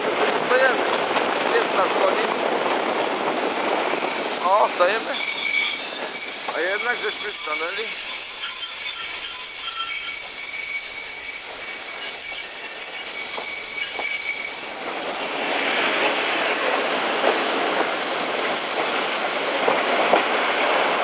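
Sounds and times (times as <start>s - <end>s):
train wheels clattering on rails: 0.0s - 21.0s
train high-pitched squeal: 1.8s - 21.0s.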